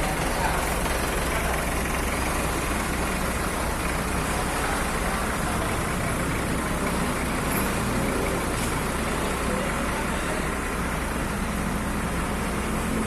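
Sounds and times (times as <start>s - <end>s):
tamping rammer engine running: 0.0s - 13.0s.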